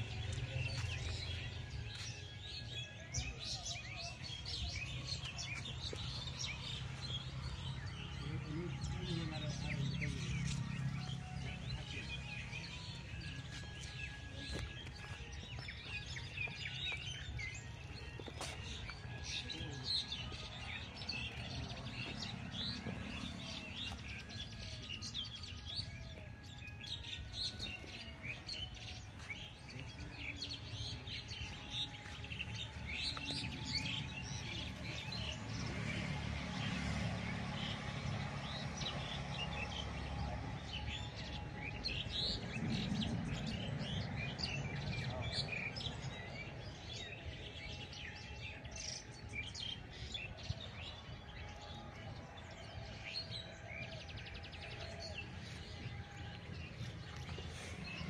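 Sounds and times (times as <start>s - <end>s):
birds chirping chorus: 0.0s - 58.0s.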